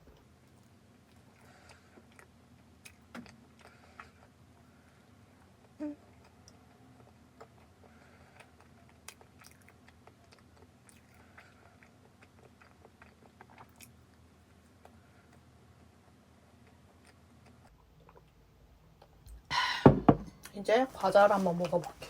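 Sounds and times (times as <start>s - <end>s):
chewing soft bread: 0.0s - 19.2s.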